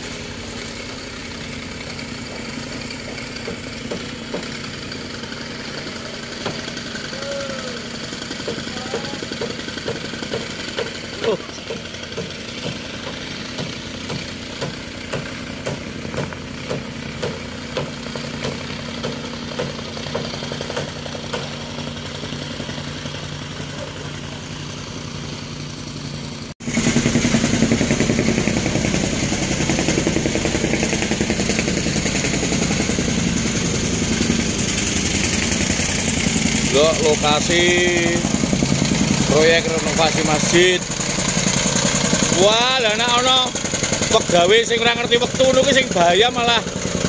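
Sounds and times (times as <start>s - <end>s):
rammer engine humming: 0.0s - 47.0s
rammer foot pounding soil: 0.0s - 47.0s.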